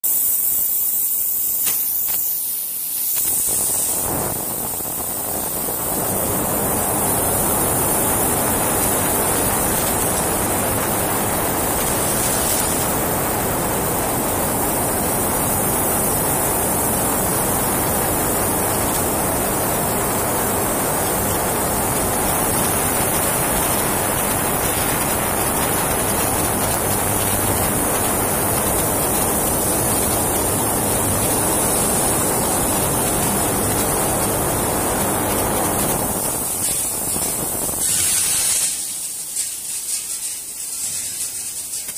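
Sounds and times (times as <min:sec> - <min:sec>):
high-pressure water spray: 0:00.1 - 0:41.9.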